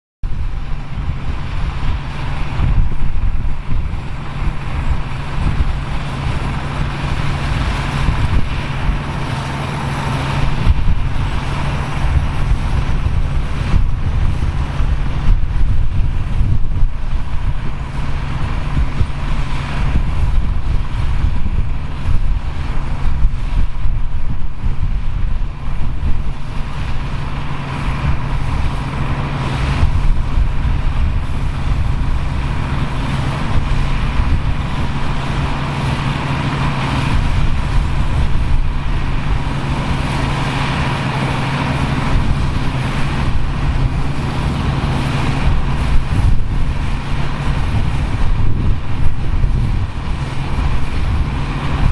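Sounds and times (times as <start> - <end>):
farm machinery engine droning: 0.2 - 51.9
wind buffeting microphone: 0.2 - 51.9.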